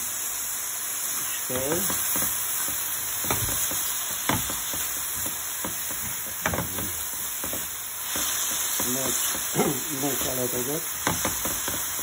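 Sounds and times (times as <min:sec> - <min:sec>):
vegetables sizzling in frying pan: 0:00.0 - 0:12.0
spatula scraping and knocking pan: 0:01.5 - 0:12.0.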